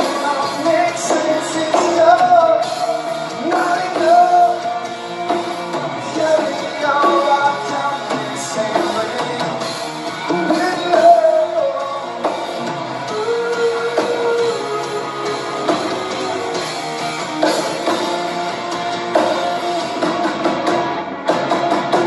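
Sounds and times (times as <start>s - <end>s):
person singing: 0.0s - 20.1s
rock band playing: 0.0s - 22.0s.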